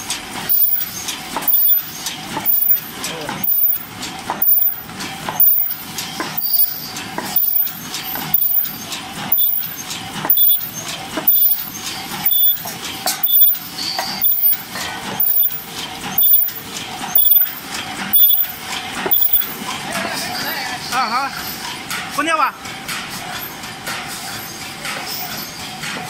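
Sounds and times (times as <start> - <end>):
rhythmic mechanical clatter: 0.0 - 26.0.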